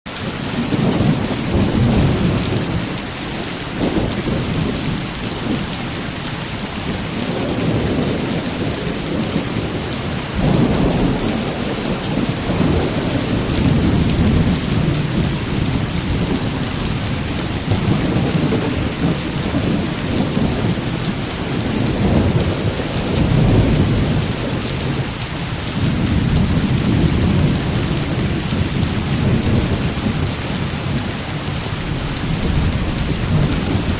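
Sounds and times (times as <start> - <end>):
heavy rain falling: 0.1 - 33.9
thunder rumbling: 0.4 - 33.9.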